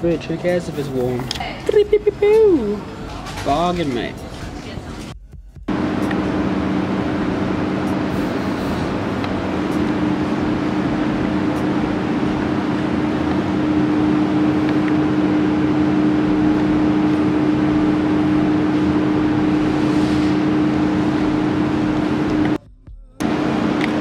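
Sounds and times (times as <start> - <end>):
low hum: 0.0 - 22.6, 23.2 - 24.0
machine drone: 0.0 - 22.6, 23.2 - 24.0.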